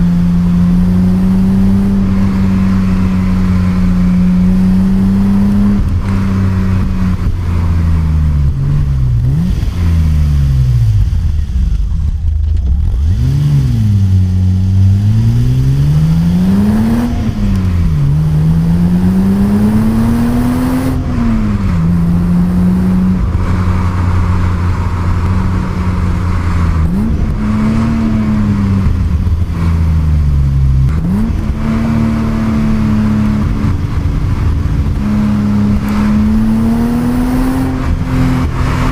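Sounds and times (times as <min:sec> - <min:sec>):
car engine revving under load: 0:00.0 - 0:38.9.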